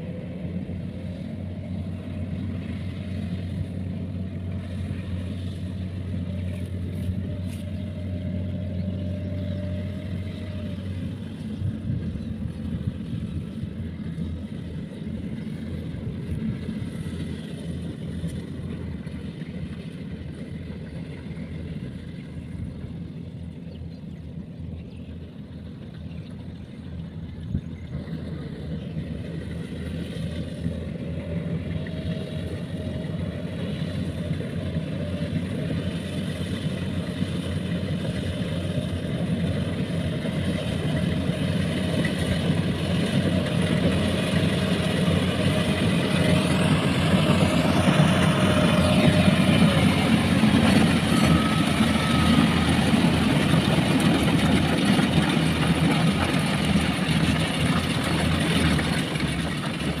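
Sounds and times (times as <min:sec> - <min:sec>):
combine harvester drone: 0:00.0 - 1:00.0.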